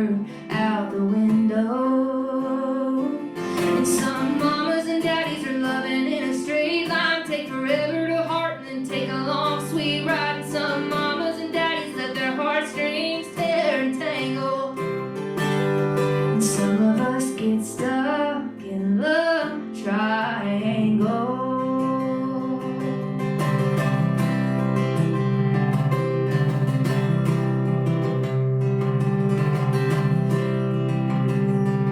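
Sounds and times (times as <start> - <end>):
strummed acoustic guitar: 0.0 - 31.9
woman singing country song: 0.0 - 31.9.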